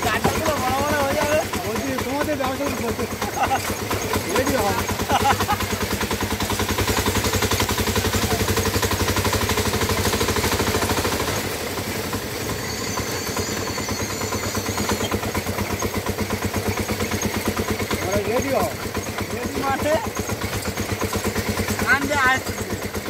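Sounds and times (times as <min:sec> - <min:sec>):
small vehicle engine running: 0:00.0 - 0:23.0.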